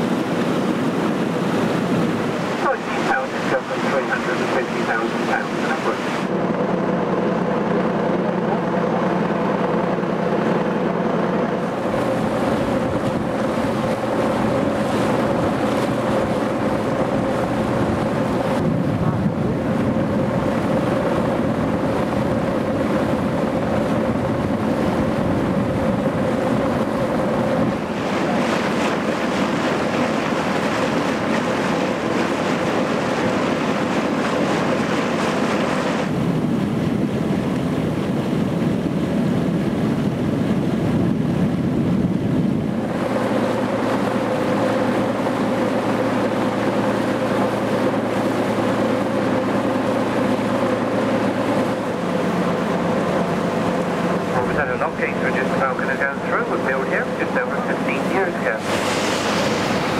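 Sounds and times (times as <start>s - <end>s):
wind on microphone: 0.0s - 55.5s, 56.1s - 59.9s
boat engine humming: 0.0s - 59.9s
water rushing past hull: 0.0s - 59.9s.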